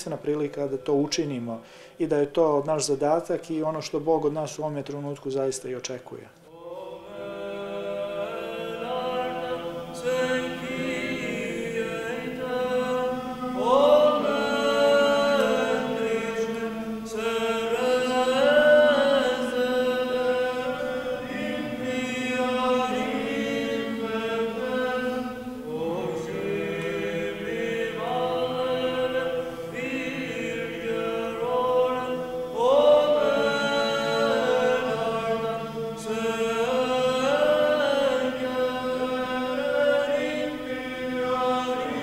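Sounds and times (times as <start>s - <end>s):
men singing a cappella chant: 6.5s - 42.0s.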